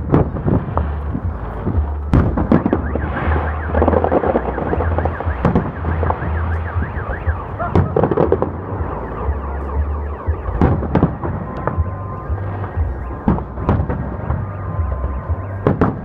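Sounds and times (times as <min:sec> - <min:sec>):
fireworks bangs and booms: 0:00.0 - 0:16.0
car alarm wailing: 0:02.0 - 0:16.0.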